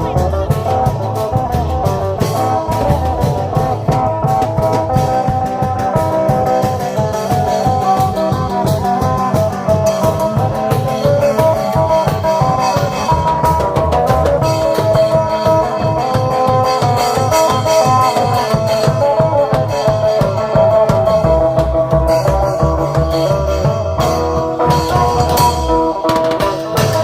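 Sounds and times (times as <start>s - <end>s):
plucked string melody: 0.0s - 27.0s
quick drum beat: 0.0s - 27.0s.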